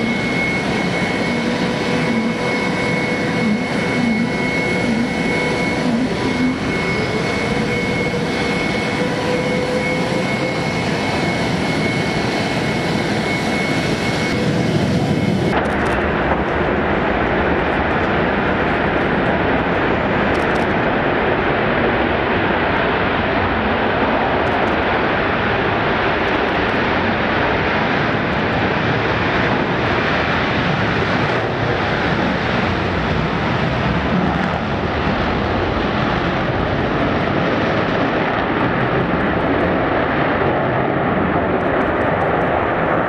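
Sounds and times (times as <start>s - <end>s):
loud jet engine noise: 0.0s - 43.0s.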